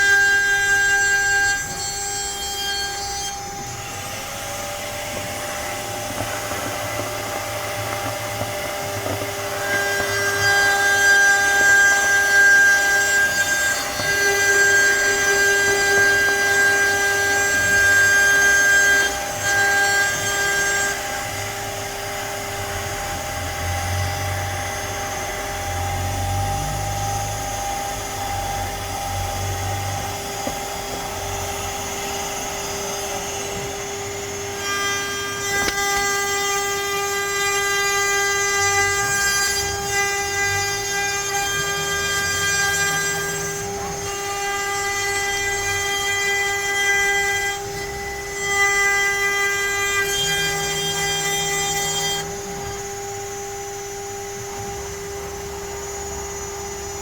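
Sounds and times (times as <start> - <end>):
router spindle high whine: 0.0 - 57.0.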